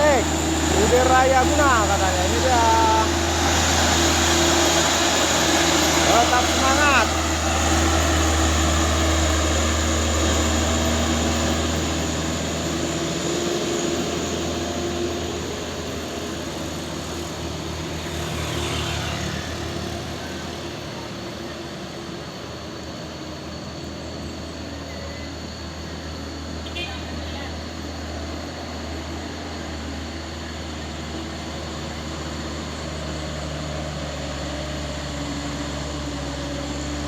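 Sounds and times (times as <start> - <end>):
truck diesel engine running: 0.0 - 37.0.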